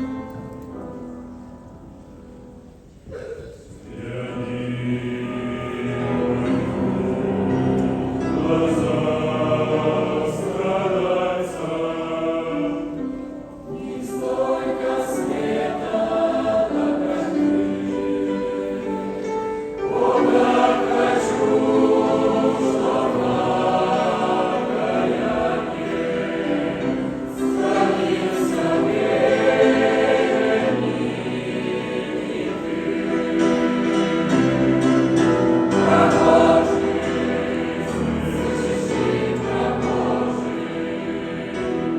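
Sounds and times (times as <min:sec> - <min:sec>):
choir singing: 0:03.1 - 0:41.9.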